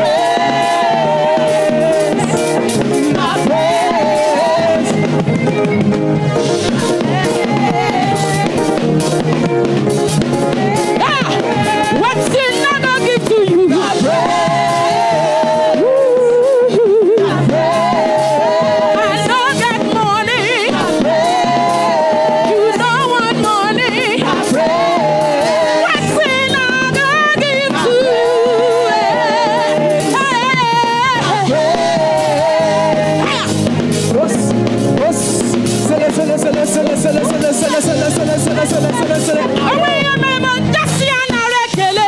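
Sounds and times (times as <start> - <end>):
gospel band with drums and keyboard: 0.0 - 42.0
person singing with vibrato: 0.0 - 42.0.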